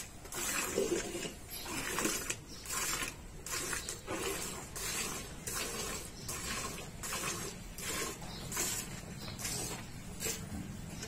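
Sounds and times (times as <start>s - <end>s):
milk squirting into steel pail: 0.0s - 11.0s.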